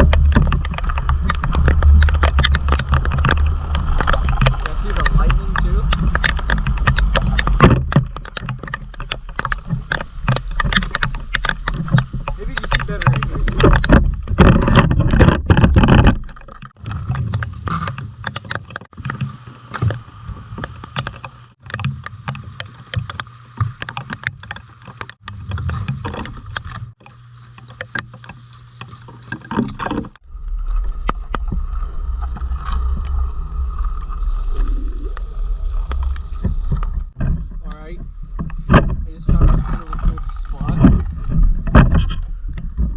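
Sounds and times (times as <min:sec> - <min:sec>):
rain: 0:00.0 - 0:14.5, 0:16.3 - 0:37.1
wind rumbling on microphone: 0:00.0 - 0:27.2, 0:29.5 - 0:42.9
small clicks and knocks: 0:00.0 - 0:30.2, 0:35.8 - 0:42.9.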